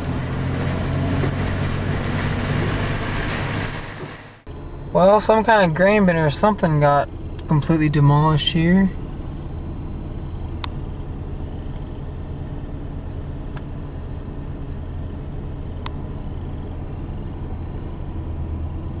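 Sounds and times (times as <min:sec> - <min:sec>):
car engine hum and road noise: 0:00.0 - 0:19.0.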